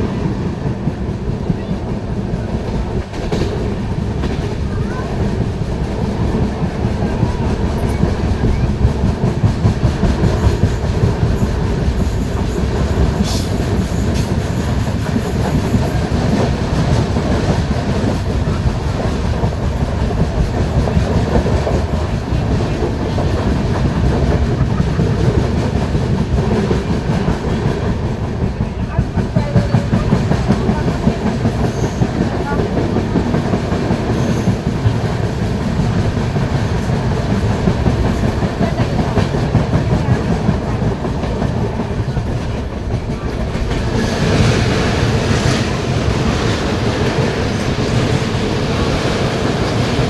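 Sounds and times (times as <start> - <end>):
train rumbling on track: 0.0 - 50.0.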